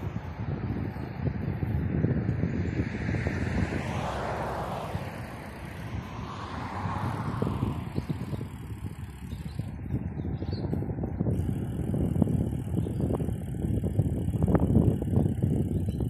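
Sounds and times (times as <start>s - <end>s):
bike rattling and knocking: 0.0s - 4.0s, 5.1s - 16.0s
bicycle tyre rumble on dirt: 0.0s - 16.0s
wind buffeting microphone: 0.0s - 16.0s.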